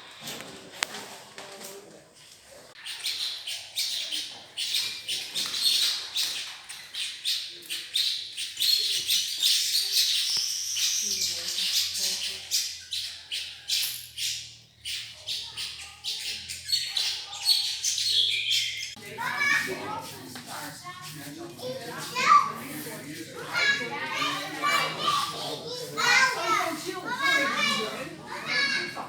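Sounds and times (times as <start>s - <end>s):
birds squawking and chirping: 2.8s - 20.2s, 20.8s - 29.0s.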